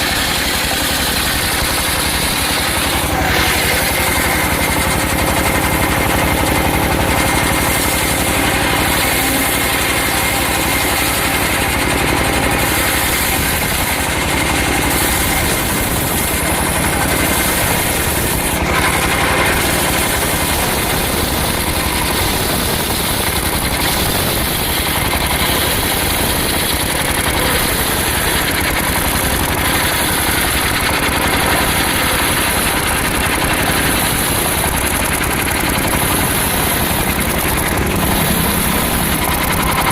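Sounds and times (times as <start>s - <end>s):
circular sawmill engine running: 0.0s - 39.9s.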